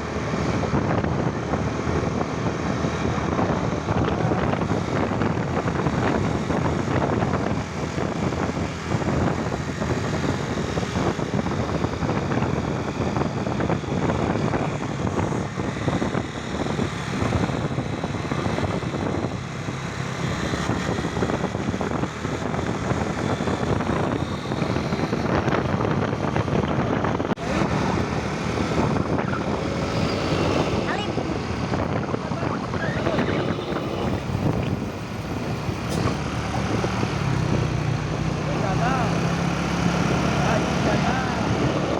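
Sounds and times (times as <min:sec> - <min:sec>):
heavy road traffic roar: 0:00.0 - 0:41.9.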